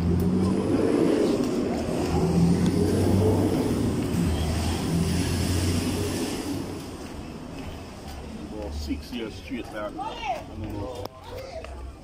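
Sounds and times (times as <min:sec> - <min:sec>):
road noise: 0:00.0 - 0:12.0
vehicle engines humming: 0:00.0 - 0:12.0.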